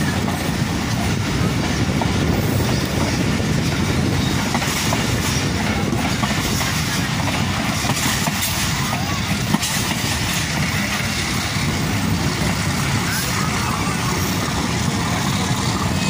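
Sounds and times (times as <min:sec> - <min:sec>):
train rumbling: 0:00.0 - 0:16.0
wheels clacking over rail joints: 0:00.0 - 0:16.0
wind rushing: 0:00.0 - 0:16.0.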